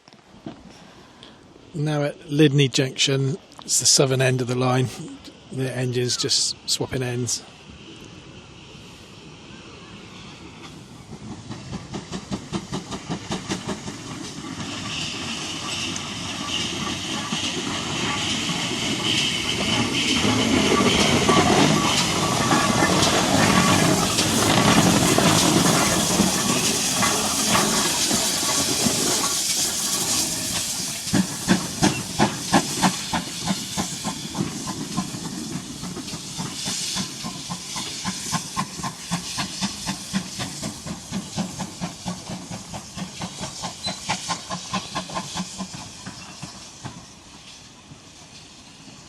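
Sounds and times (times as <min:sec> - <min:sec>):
steam locomotive chuffing: 0:03.7 - 0:49.0
steam locomotive hissing: 0:03.7 - 0:49.0.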